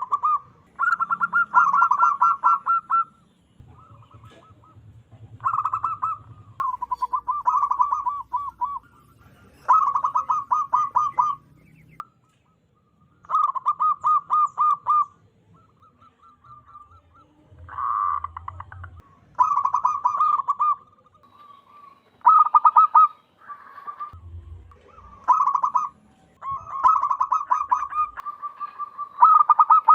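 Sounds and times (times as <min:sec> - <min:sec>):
dove cooing: 0:00.0 - 0:12.0, 0:13.2 - 0:29.9.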